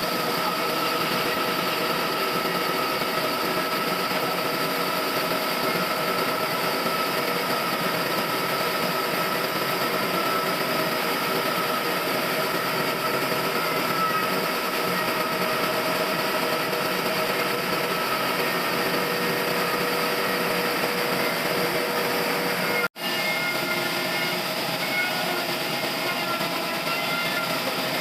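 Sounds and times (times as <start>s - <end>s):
sawmill machinery whining: 0.0s - 28.0s.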